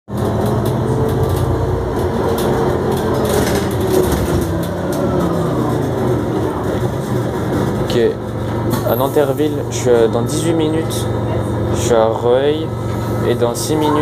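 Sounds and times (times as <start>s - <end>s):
bus engine hum with whine: 0.1s - 14.0s.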